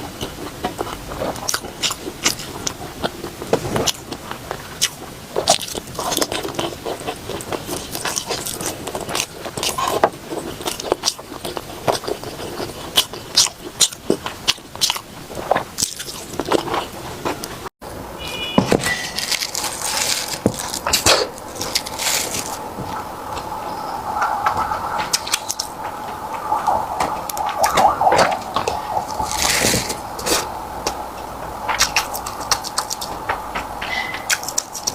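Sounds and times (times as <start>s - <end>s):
biting and chewing: 0.0s - 17.7s, 18.6s - 34.9s.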